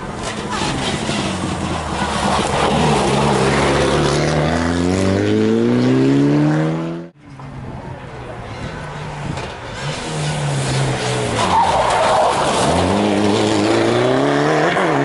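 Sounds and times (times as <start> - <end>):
rally car engine passing: 0.0 - 7.2, 8.5 - 15.0.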